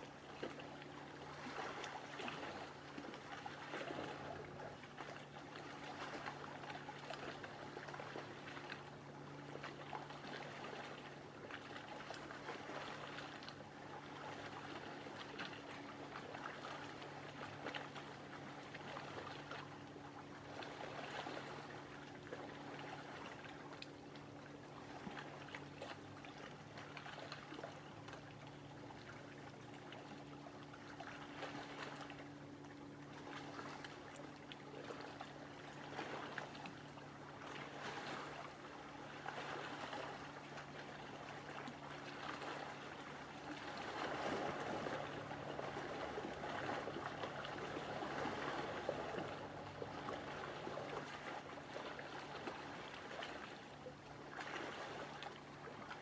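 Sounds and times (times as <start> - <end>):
faint low hum: 0.0 - 56.0
lake waves lapping: 0.0 - 56.0.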